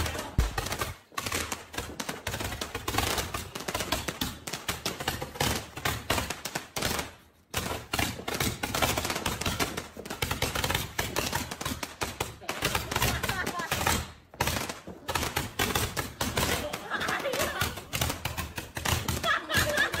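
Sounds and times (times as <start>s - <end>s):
fireworks crackling pops: 0.0s - 20.0s.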